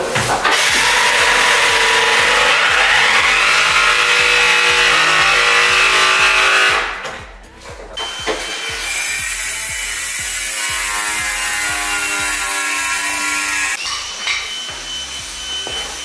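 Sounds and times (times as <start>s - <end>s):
background music: 0.0s - 16.0s
power tool cutting: 0.4s - 7.0s, 8.0s - 16.0s.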